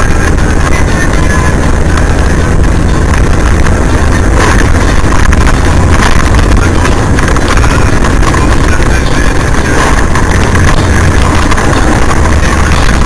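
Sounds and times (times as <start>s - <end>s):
car engine hum: 0.0s - 13.0s
wind and road noise: 0.0s - 13.0s.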